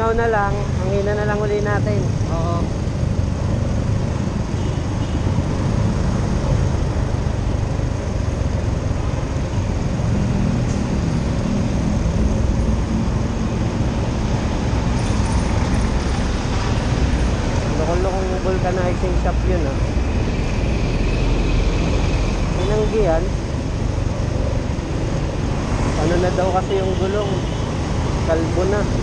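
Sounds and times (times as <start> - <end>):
motorcycle riding in traffic: 0.0 - 29.0.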